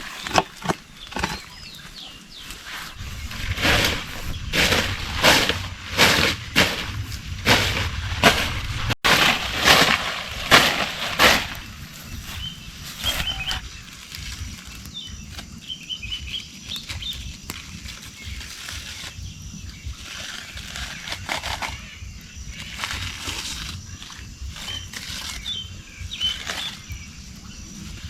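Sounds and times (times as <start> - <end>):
birds chirping faintly: 0.0 - 8.7, 9.6 - 28.0.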